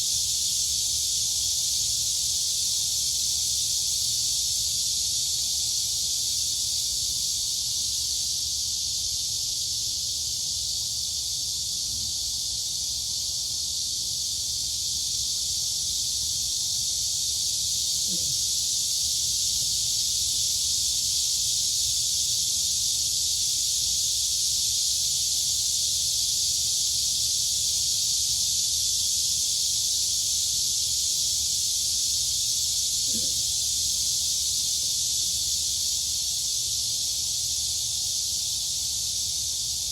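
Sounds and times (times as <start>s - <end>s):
crickets and cicadas chorus: 0.0s - 39.9s.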